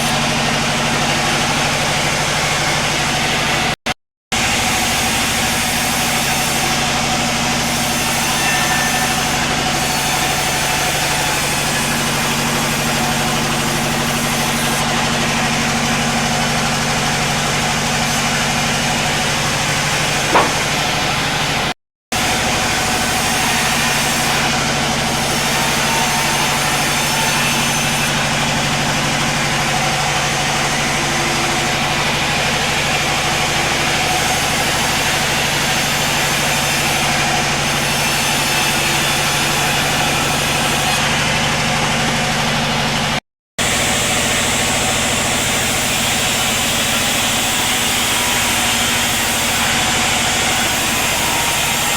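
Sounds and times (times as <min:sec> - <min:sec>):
sawmill machinery humming: 0:00.0 - 0:03.8, 0:04.4 - 0:51.9.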